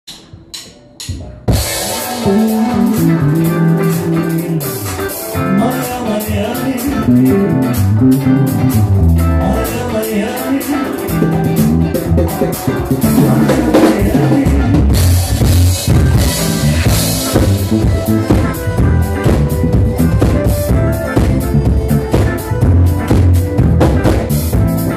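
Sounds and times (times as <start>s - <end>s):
live drum kit groove: 0.1s - 24.9s
electric bass guitar: 1.1s - 24.9s.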